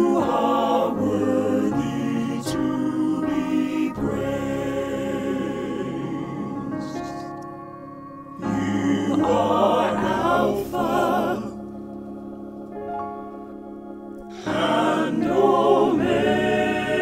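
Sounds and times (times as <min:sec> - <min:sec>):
choir singing: 0:00.0 - 0:12.4, 0:14.3 - 0:17.0
sustained organ chords: 0:00.0 - 0:17.0.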